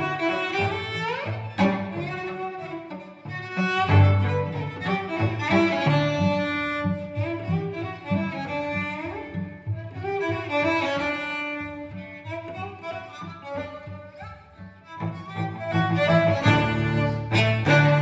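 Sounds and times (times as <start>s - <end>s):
two cellos playing bowed notes: 0.0s - 18.0s.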